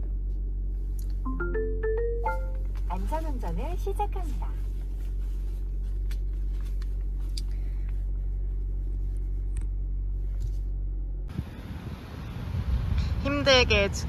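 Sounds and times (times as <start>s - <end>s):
car cabin hum: 0.0s - 11.5s.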